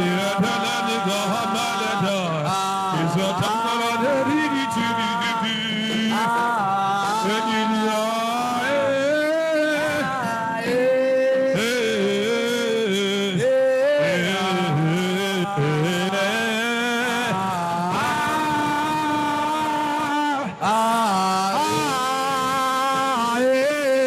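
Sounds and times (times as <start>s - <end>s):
person chanting wordlessly: 0.0s - 24.0s.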